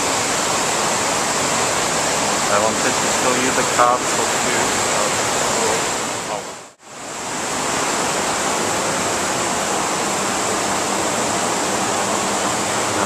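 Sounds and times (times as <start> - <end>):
river rushing over rapids: 0.0 - 13.0.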